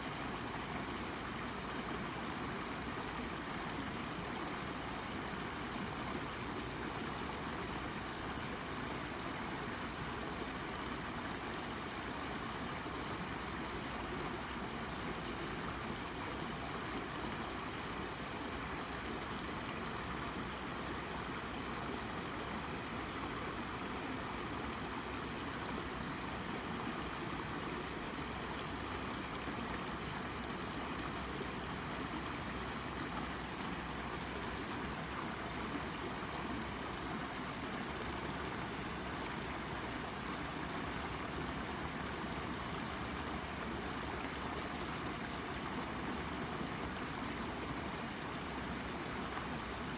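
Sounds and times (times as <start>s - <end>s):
brook babbling over rock: 0.0s - 49.9s.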